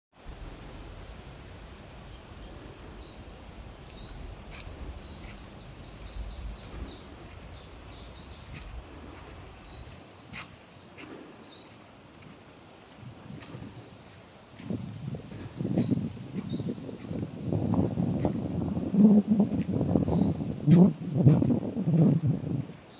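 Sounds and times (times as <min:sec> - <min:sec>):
birds chirping: 0:00.7 - 0:22.9.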